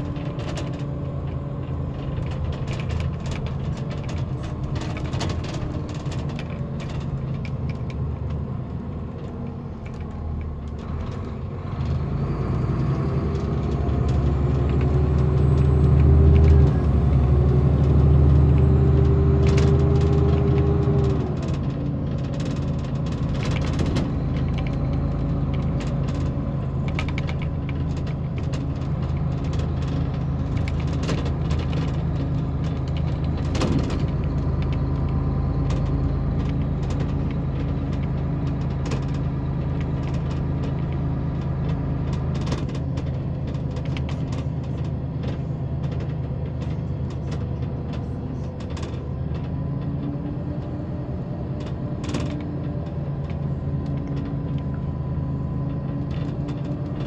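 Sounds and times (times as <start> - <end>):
coach engine heard from inside: 0.0 - 57.0.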